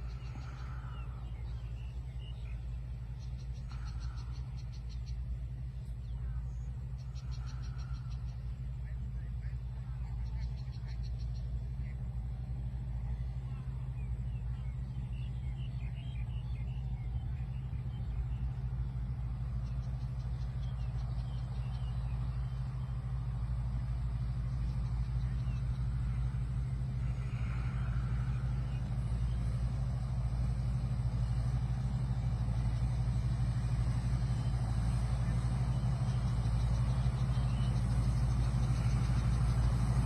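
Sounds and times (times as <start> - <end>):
harvester engine droning: 0.0 - 40.0.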